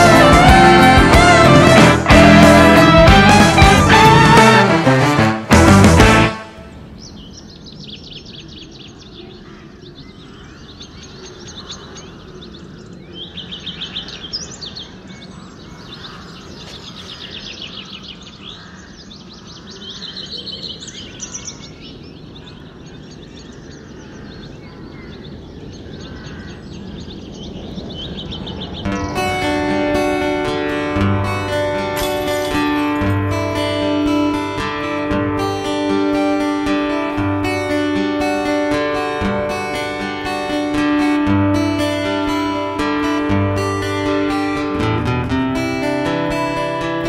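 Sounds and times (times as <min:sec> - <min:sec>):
outdoor background hiss: 0:00.0 - 0:47.0
songbirds trilling: 0:06.4 - 0:47.0.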